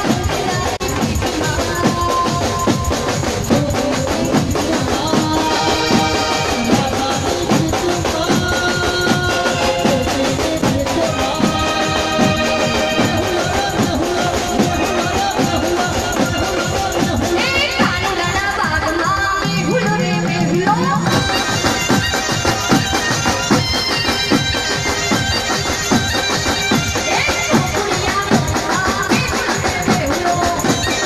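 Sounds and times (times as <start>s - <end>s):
dhol drumming: 0.0s - 31.0s.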